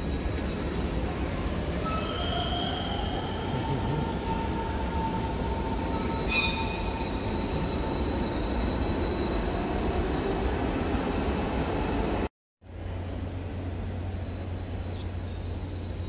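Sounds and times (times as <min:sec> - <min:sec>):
train rumble and whine: 0:00.0 - 0:16.0.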